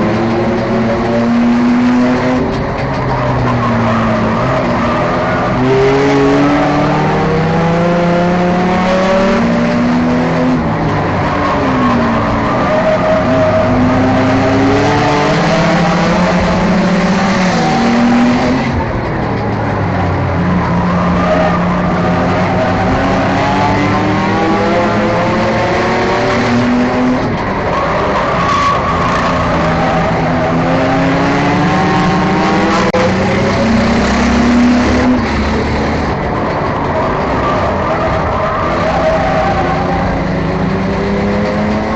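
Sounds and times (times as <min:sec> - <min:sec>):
other race cars: 0:00.0 - 0:41.9
race car engine revving: 0:00.0 - 0:41.9.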